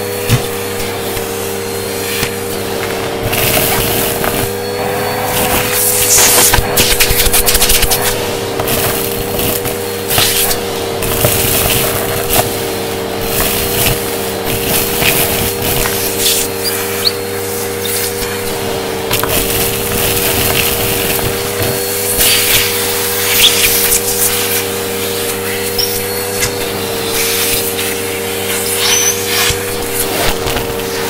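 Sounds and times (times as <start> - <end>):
grit rattling up vacuum hose: 0.0 - 31.0
vacuum cleaner whining: 0.0 - 31.0.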